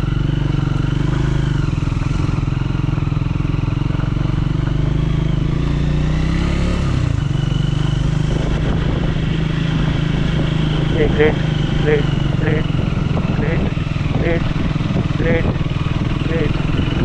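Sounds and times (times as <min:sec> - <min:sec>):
single-cylinder motorcycle engine: 0:00.0 - 0:17.0.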